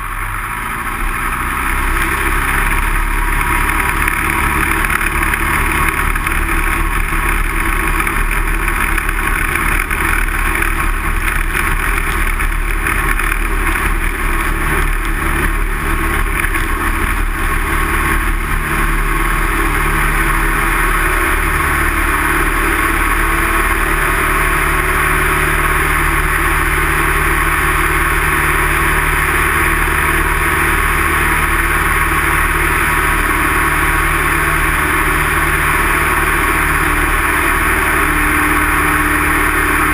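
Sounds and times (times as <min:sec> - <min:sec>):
aircraft piston engine and propeller: 0:00.0 - 0:39.9.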